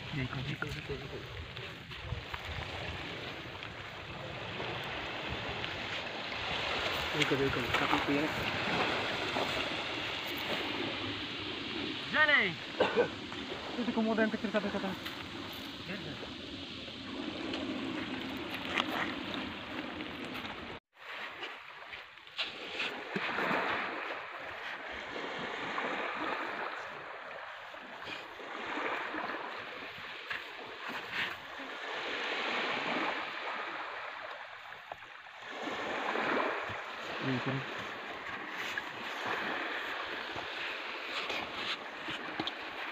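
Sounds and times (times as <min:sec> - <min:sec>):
surf washing onto beach: 0:00.0 - 0:42.9.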